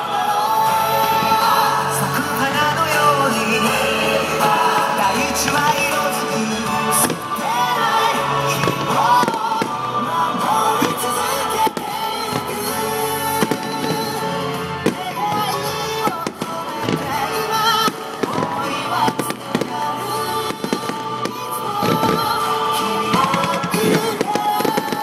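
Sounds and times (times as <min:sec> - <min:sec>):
pop song over loudspeakers: 0:00.0 - 0:25.0
fireworks bangs: 0:00.6 - 0:25.0.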